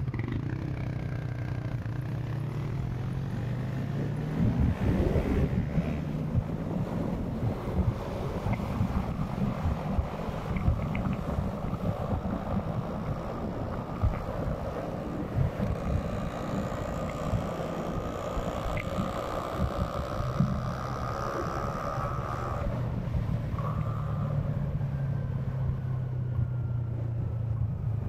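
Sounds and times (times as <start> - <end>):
motorcycle engine running: 0.0 - 28.0
wind rumble on microphone: 0.0 - 28.0.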